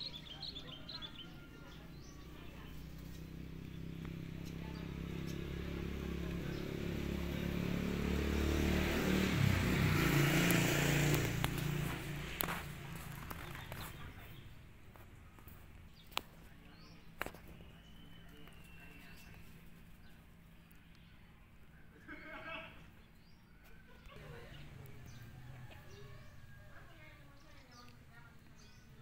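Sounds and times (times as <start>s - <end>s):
vehicle engine passing by: 0.0s - 20.5s, 23.0s - 29.0s.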